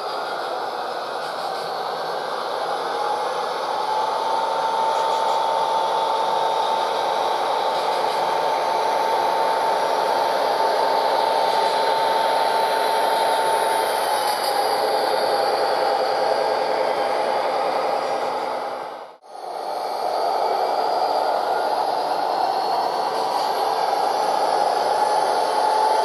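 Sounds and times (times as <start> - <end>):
model train diesel engine sound: 0.0 - 26.0
steady high whine: 0.0 - 26.0.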